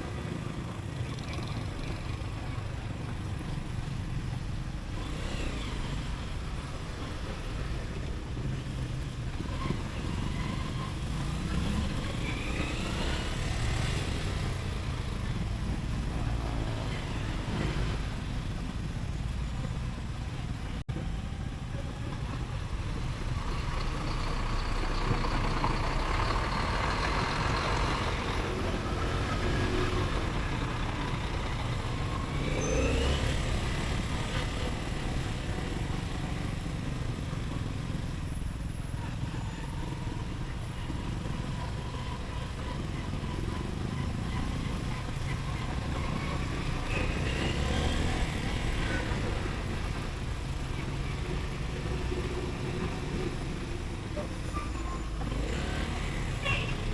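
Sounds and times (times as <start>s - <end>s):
passing traffic: 0.0s - 56.9s.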